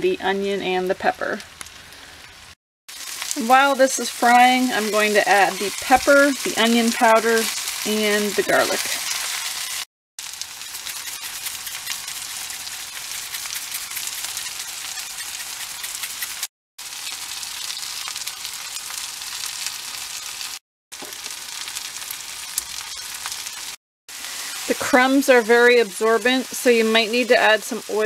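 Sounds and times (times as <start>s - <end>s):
chicken sizzling in a pan: 1.3s - 28.0s.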